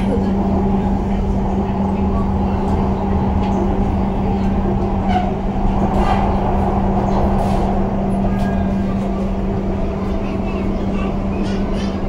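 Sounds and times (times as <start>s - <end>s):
constant low hum: 0.0s - 12.0s
faint voices: 0.0s - 12.0s
train rumble: 0.0s - 12.0s.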